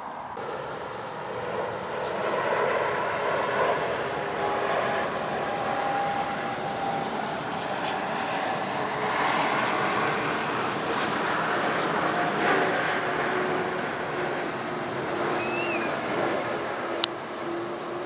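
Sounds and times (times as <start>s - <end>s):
faint jet whine: 0.0s - 18.0s
jet airliner rumble overhead: 0.0s - 18.0s.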